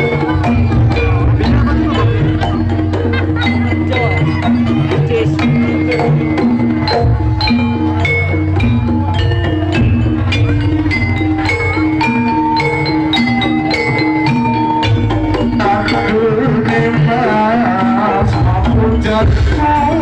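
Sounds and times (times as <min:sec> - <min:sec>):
drums: 0:00.0 - 0:20.0
ringing pitched percussion: 0:00.0 - 0:20.0
wavering melody line: 0:00.0 - 0:20.0.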